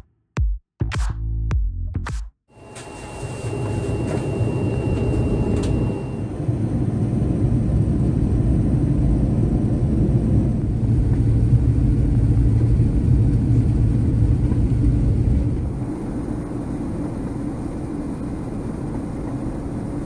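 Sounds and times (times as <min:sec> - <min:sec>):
jet engine rumble in cabin: 0:02.6 - 0:20.0.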